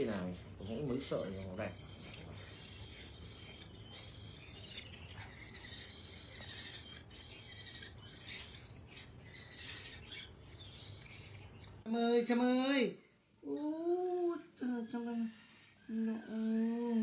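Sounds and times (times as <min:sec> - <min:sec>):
parrot chirping: 0:00.0 - 0:13.7, 0:14.5 - 0:17.0.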